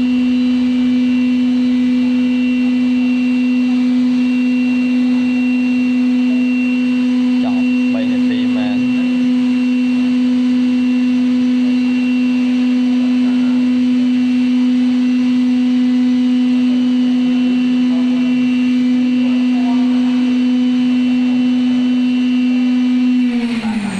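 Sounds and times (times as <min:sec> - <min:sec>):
lathe humming: 0:00.0 - 0:23.9.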